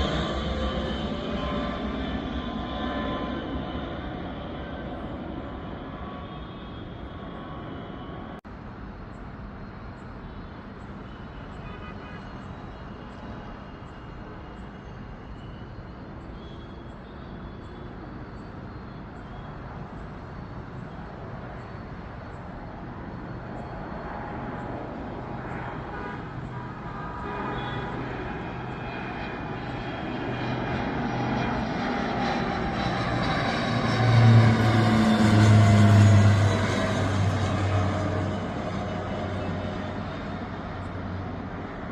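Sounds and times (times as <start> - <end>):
aircraft drone: 0.0 - 41.9.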